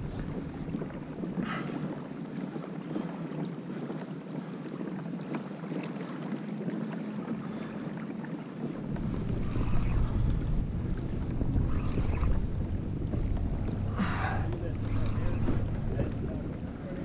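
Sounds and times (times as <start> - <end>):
water lapping against kayak hull: 0.0 - 17.0
wind on microphone: 0.0 - 17.0.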